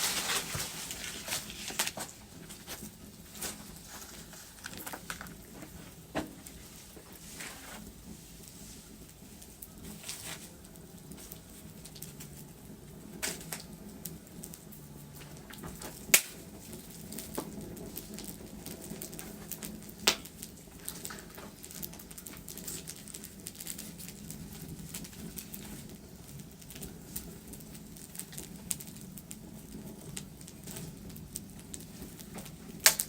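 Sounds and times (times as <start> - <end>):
fire pops and snaps: 0.0 - 33.0
wood fire hissing: 0.0 - 33.0.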